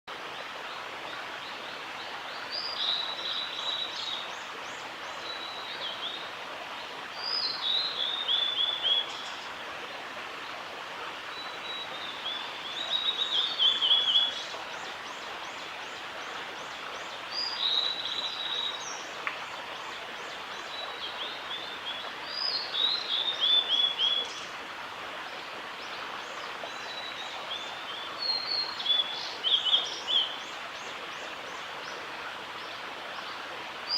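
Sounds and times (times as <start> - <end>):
steady background hiss: 0.1 - 33.9.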